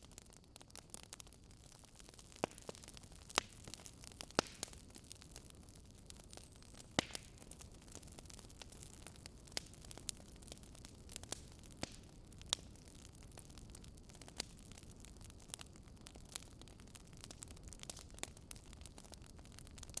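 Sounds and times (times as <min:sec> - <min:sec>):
crackling wood fire: 0:00.0 - 0:20.0.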